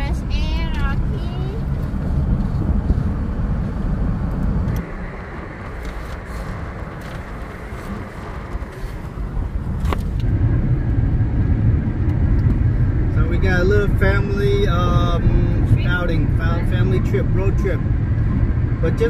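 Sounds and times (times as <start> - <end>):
wind buffeting microphone: 0.0 - 18.9
car road noise: 0.0 - 19.0.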